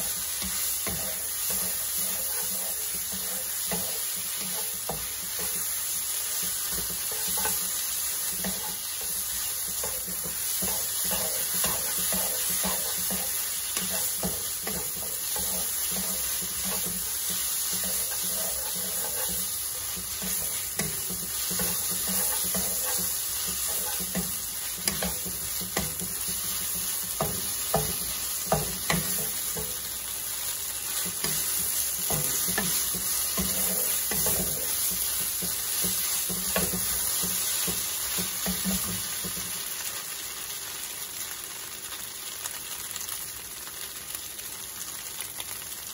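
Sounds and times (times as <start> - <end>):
wooden spatula scraping and knocking: 0.0 - 5.7, 6.3 - 29.9, 30.9 - 39.5
shrimp sizzling in a wok: 0.0 - 45.9.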